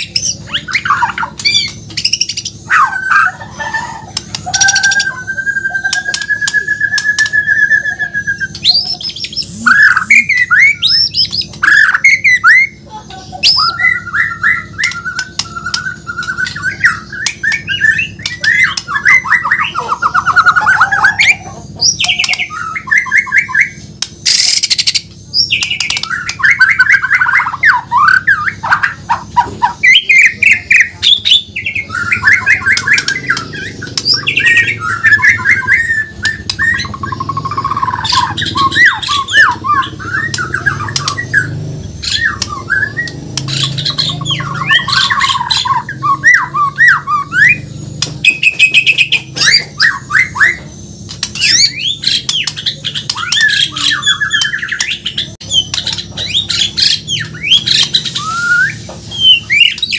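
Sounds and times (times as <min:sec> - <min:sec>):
bird singing trills and whistles: 0:00.0 - 0:59.9
harsh noisy bird call: 0:00.0 - 0:59.9.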